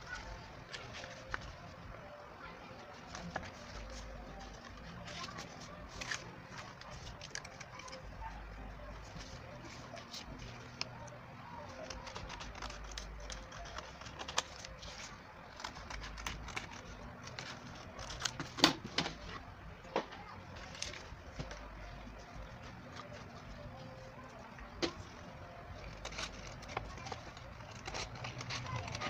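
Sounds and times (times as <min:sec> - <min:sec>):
cardstock rustling and folding: 0:00.0 - 0:29.0.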